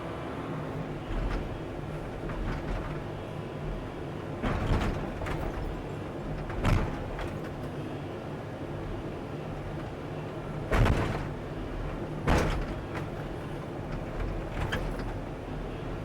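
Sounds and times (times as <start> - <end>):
short clunks and clatters: 0.9 - 7.9, 8.7 - 16.0.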